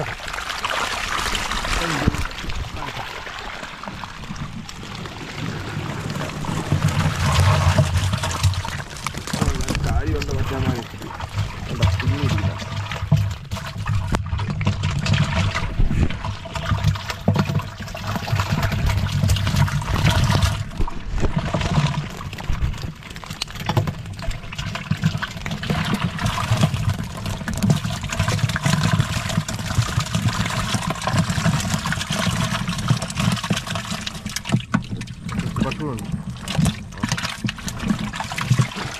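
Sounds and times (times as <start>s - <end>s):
water pouring and splashing: 0.0s - 38.9s.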